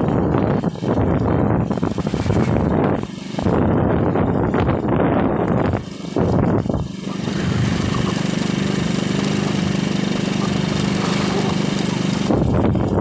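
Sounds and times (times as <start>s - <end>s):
small engine running: 0.0s - 13.0s
wind buffeting microphone: 0.0s - 13.0s.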